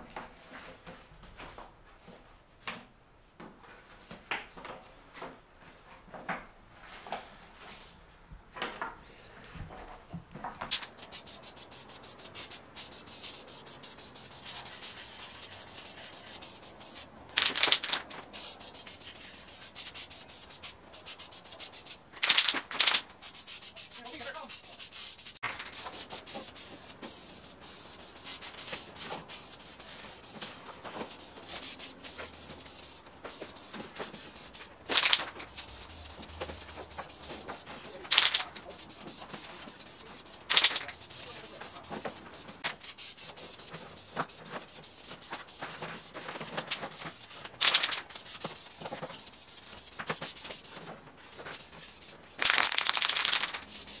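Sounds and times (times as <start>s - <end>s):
aerosol spray can hissing: 10.8s - 54.0s.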